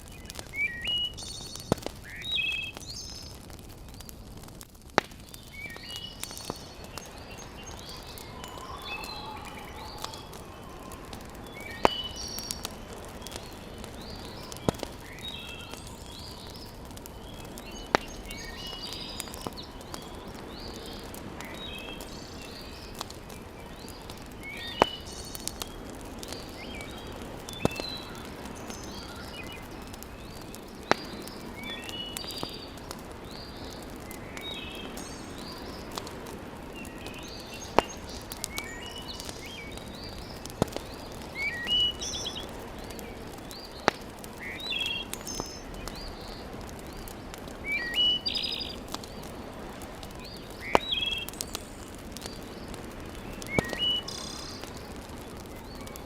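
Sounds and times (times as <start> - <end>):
fire popping: 0.0 - 56.0
small birds chirping: 0.0 - 56.0
wood fire crackling: 0.0 - 56.0.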